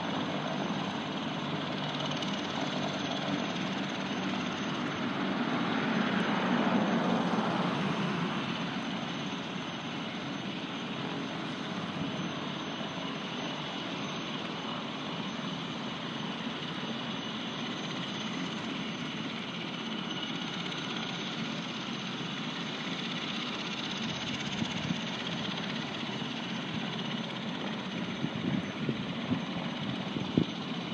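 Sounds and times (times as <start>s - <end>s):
helicopter rotor and engine: 0.0s - 30.9s.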